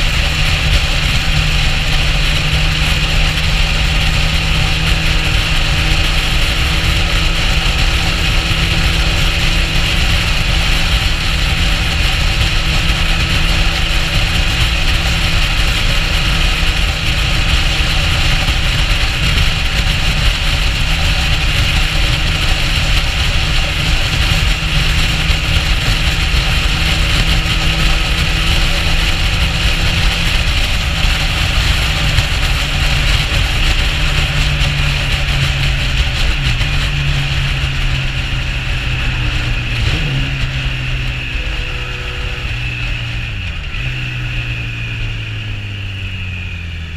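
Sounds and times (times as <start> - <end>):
motorcycle engine cruising: 0.0 - 46.9
wind rushing over microphone: 0.0 - 46.9.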